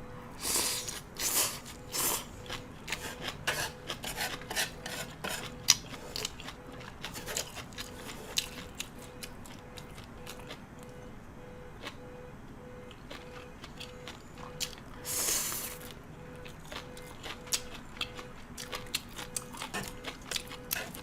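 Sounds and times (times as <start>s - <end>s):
chewing and crunching food: 0.4s - 11.1s, 11.7s - 12.2s, 12.8s - 21.0s.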